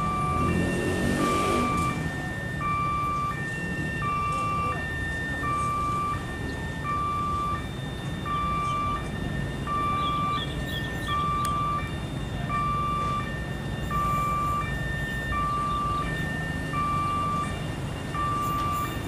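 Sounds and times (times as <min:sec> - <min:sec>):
level crossing two-tone alarm: 0:00.0 - 0:19.0.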